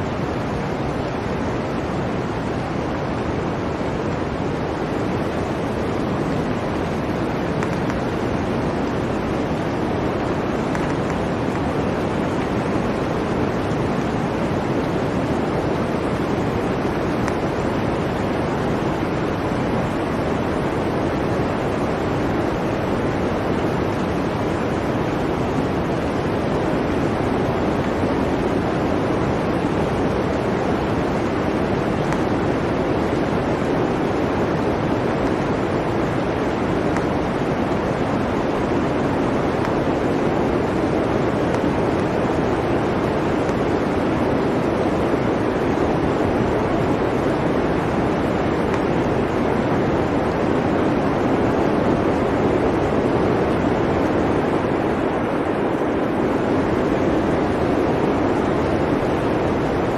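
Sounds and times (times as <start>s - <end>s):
blizzard wind rushing: 0.0s - 59.9s.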